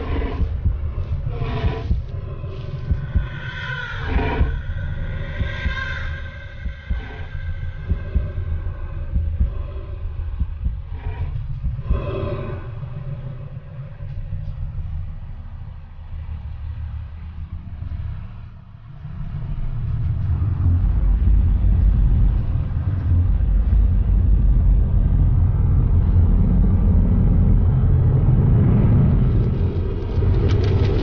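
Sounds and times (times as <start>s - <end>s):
vehicle rumble: 0.0s - 31.0s
wind: 0.0s - 31.0s.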